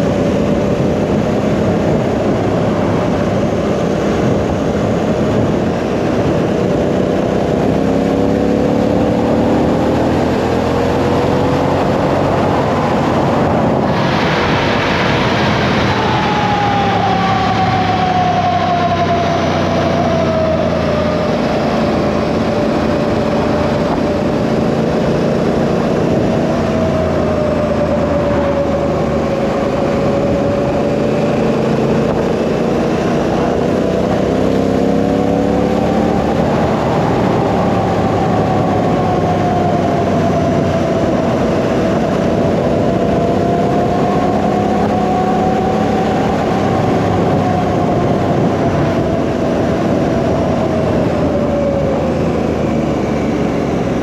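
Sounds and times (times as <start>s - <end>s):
motorcycle engine accelerating: 0.0s - 54.0s
wind rushing on microphone: 0.0s - 54.0s.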